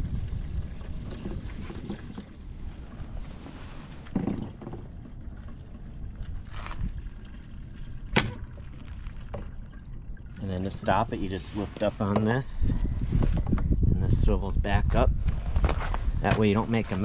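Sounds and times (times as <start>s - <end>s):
wind on microphone: 0.0s - 8.6s, 10.7s - 17.0s
gasoline trickling into tank: 0.0s - 13.7s.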